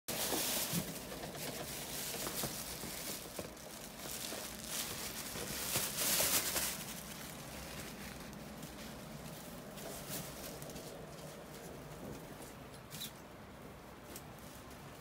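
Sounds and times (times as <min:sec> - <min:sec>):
plastic bag crinkling: 0:00.1 - 0:12.2.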